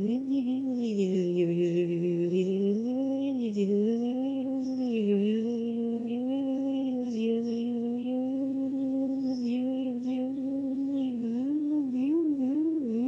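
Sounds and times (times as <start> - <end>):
person humming long note: 0.0 - 13.0.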